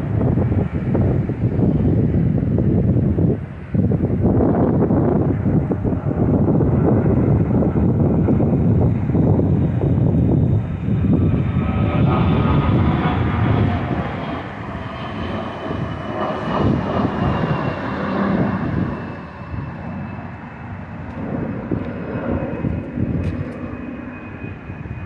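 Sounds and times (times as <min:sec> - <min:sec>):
high jet engine whine: 0:00.0 - 0:25.0
jet plane climbing rumble: 0:00.0 - 0:25.0.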